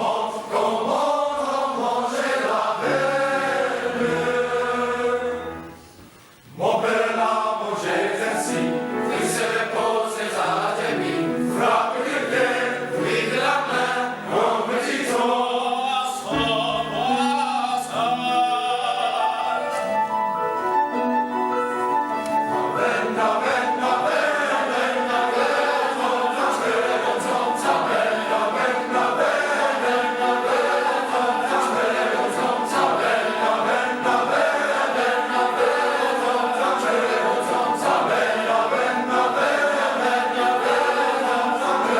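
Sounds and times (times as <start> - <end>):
men's chorus singing: 0.0 - 5.7, 6.5 - 19.8, 22.8 - 41.9.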